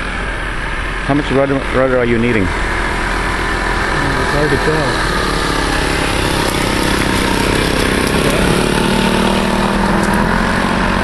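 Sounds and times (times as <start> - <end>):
model airplane engines running: 0.0 - 11.0.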